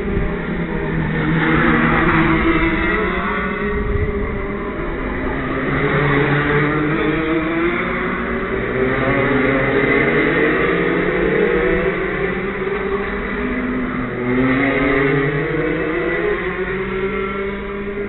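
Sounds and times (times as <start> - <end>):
go-kart engines revving: 0.0 - 18.0.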